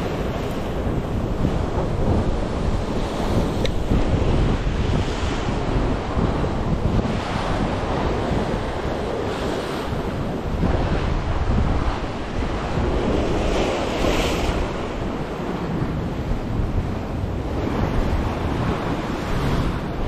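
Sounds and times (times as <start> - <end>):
sea waves washing against rocks: 0.0 - 20.0
wind rumbling on microphone: 0.0 - 20.0.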